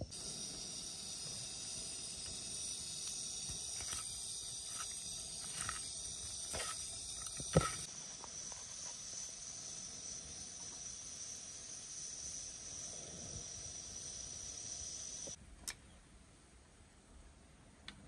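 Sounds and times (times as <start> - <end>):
insects chirring: 0.0 - 15.4.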